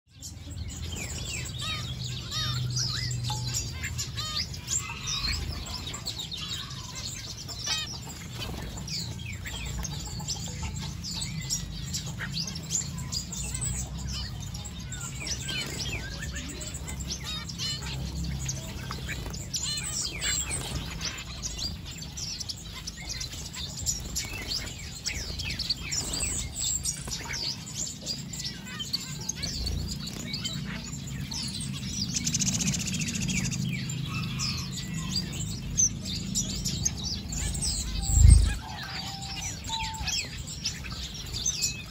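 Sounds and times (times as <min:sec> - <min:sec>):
finches chirping: 0:00.1 - 0:41.9.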